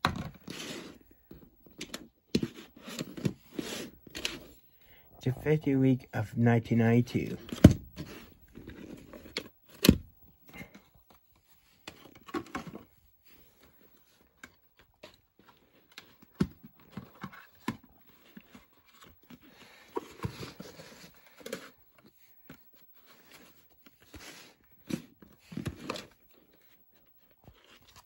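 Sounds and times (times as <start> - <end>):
cardboard sleeve rustling and scraping: 0.1 - 5.3, 7.2 - 28.0.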